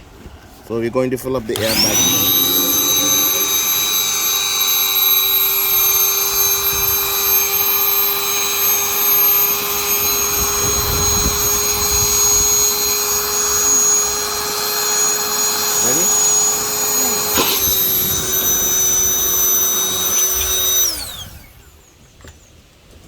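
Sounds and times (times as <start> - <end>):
electric air pump whine: 1.5 - 21.9.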